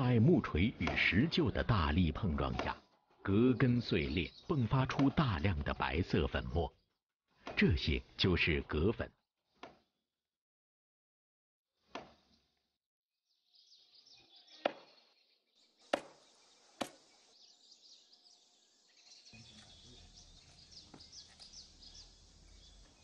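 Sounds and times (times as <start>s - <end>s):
small birds chirping: 0.0s - 10.0s, 13.3s - 23.0s.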